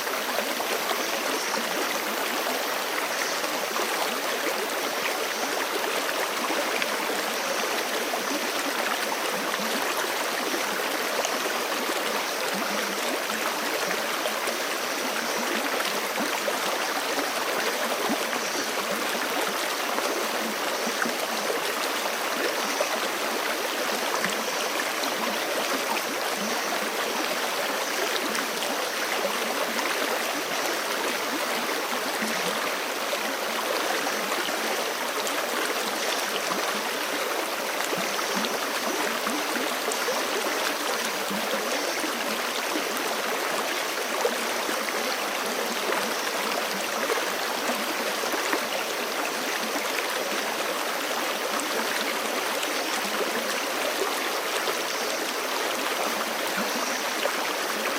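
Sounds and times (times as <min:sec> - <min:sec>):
creek rushing over rocks: 0:00.0 - 0:57.9.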